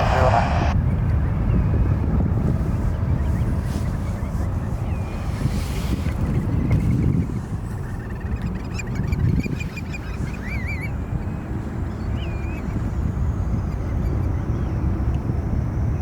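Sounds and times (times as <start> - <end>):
distant aircraft noise: 0.0 - 16.0
wind on microphone: 0.0 - 16.0.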